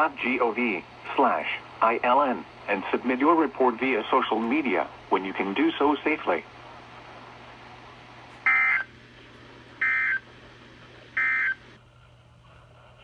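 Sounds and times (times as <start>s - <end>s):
faint hum and static: 0.0s - 13.0s.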